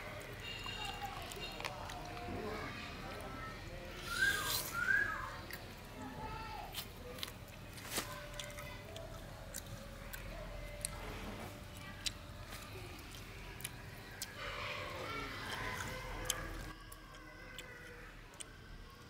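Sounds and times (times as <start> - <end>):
faint voice: 0.0 - 19.0.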